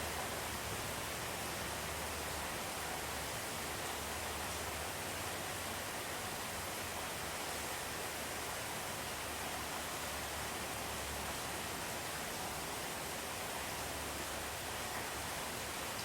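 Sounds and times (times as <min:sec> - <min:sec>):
steady rain heard from indoors: 0:00.0 - 0:16.0.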